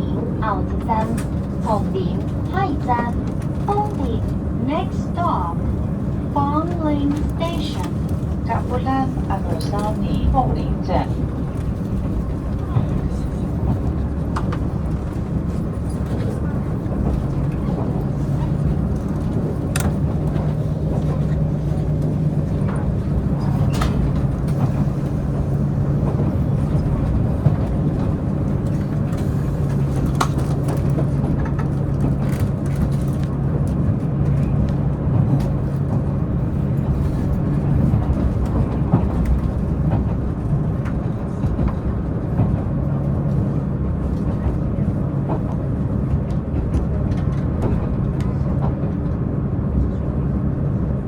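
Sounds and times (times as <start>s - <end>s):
diesel train engine hum: 0.0s - 51.0s
wheels rumbling on rails: 0.0s - 51.0s.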